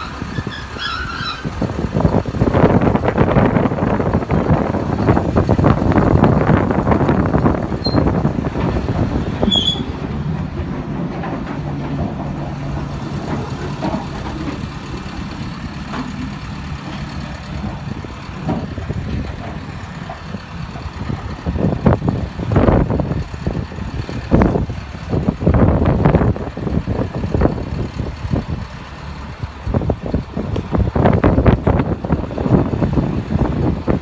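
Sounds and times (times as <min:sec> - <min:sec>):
truck engine rumbling: 0:00.0 - 0:34.0
gusts of rumbling noise: 0:01.4 - 0:34.0.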